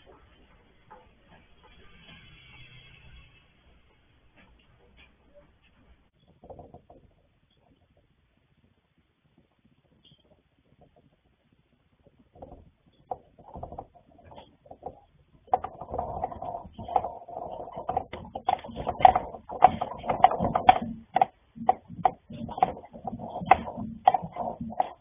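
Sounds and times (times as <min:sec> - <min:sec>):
objects rattling indoors: 0:00.0 - 0:07.9, 0:12.0 - 0:25.0.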